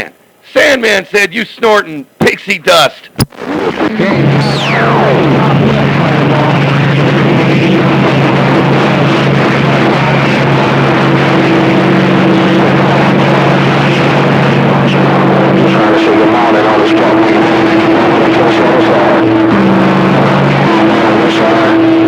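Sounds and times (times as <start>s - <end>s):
radio static: 3.1s - 22.0s
high steady tone: 3.2s - 22.0s
humming carrier tones: 3.2s - 22.0s
low hum: 3.2s - 22.0s.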